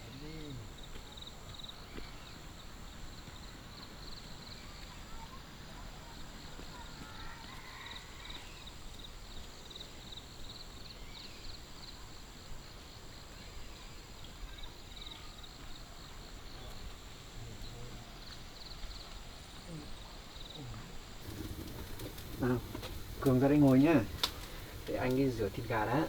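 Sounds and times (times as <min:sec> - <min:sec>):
low outdoor background noise: 0:00.0 - 0:26.0.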